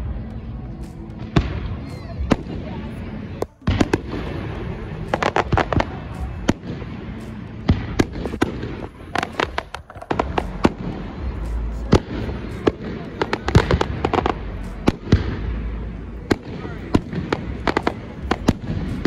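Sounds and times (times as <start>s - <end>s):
fireworks pops and crackles: 0.8s - 19.0s.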